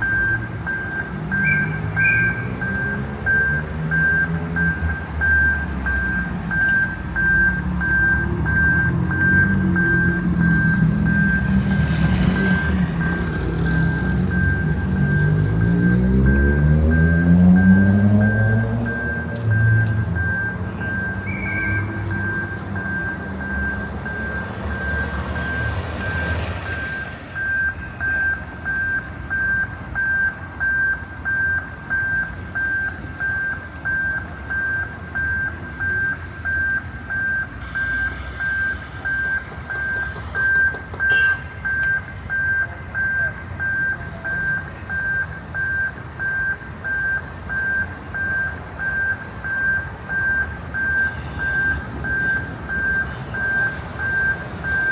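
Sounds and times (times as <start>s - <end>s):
level crossing warning beeper: 0.0s - 54.9s
road traffic rumble: 0.0s - 54.9s.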